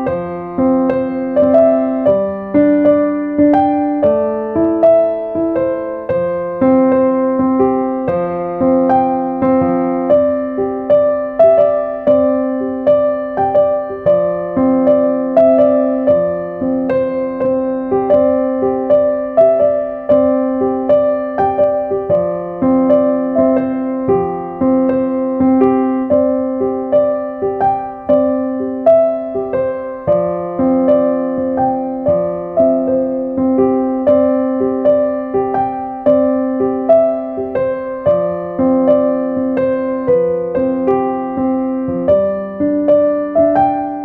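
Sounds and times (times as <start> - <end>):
electric piano music: 0.0 - 44.0.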